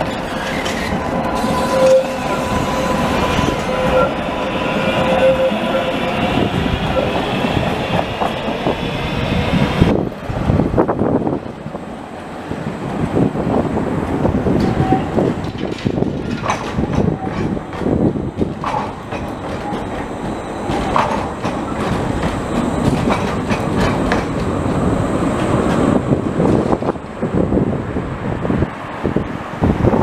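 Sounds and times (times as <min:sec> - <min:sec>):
tram wheels clattering over rails: 0:00.0 - 0:30.0.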